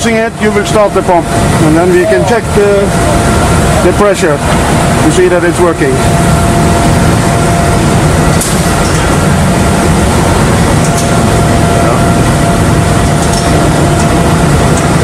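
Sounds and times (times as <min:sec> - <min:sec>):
faint steady whine: 0:00.0 - 0:15.0
pump mechanical drone: 0:00.0 - 0:15.0.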